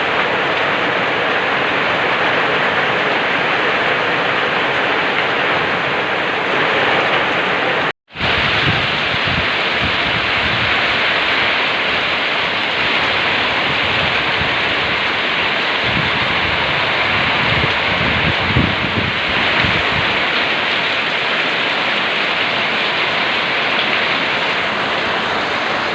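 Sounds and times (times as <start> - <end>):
steady rainfall: 0.0 - 25.9.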